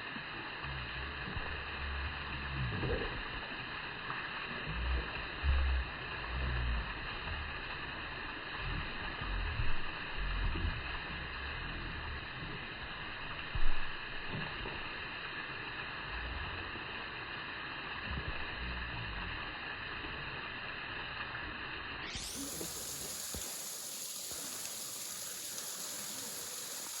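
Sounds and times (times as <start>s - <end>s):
running water rushing: 0.0s - 27.0s.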